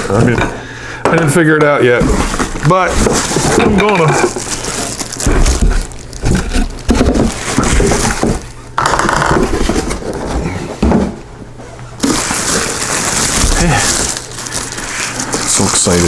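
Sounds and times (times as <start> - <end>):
packaging rustling and scraping: 1.8 - 16.0.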